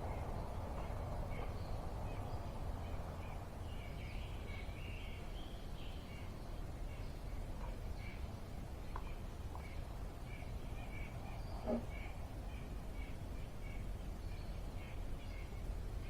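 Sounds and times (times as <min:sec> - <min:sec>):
birds chirping: 0:00.0 - 0:16.0
low background rumble: 0:00.0 - 0:16.0.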